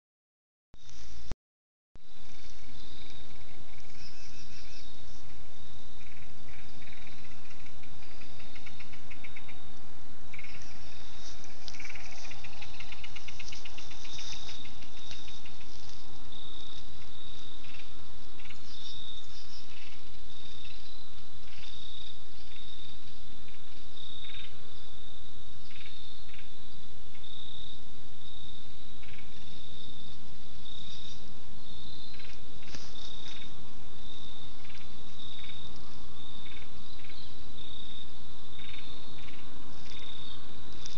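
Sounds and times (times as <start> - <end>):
cricket steady high trill: 2.0 - 40.9
crickets pulsed trills: 2.0 - 40.9.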